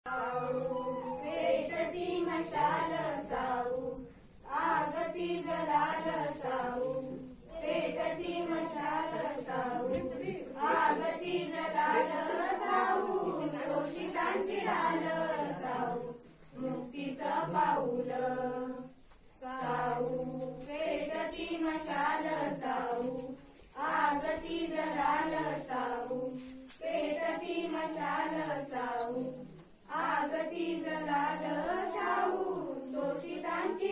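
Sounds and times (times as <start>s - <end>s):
children's choir singing: 0.1s - 33.9s.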